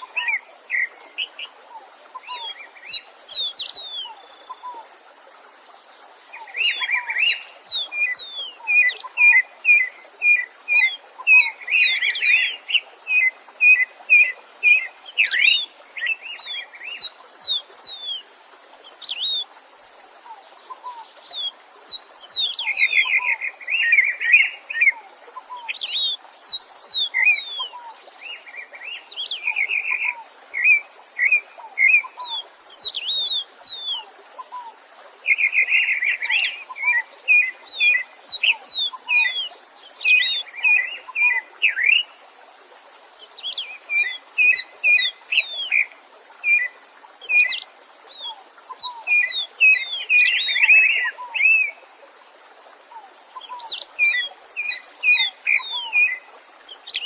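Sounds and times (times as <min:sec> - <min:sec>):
songbirds singing: 0:00.0 - 0:42.2, 0:43.0 - 0:51.9, 0:52.8 - 0:57.0
faint stream hiss: 0:00.0 - 0:57.0.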